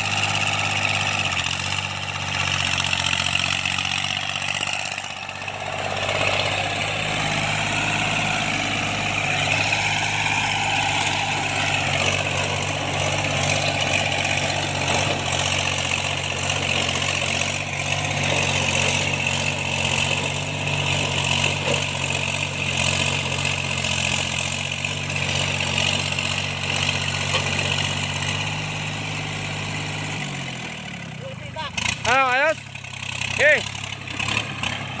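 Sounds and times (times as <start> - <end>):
tractor engine running steadily: 0.0 - 35.0.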